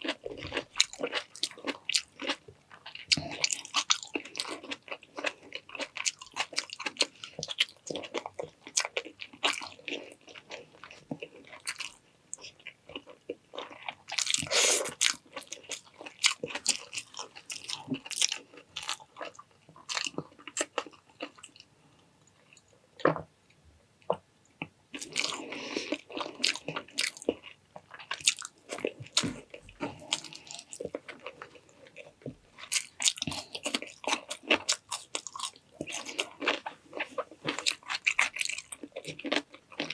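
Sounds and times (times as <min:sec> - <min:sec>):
person chewing food: 0:00.0 - 0:21.7, 0:24.0 - 0:39.9.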